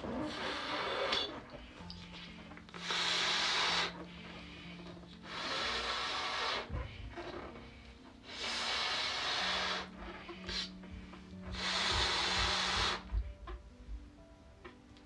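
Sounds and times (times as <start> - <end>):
breath blowing up balloon: 0.0 - 13.4.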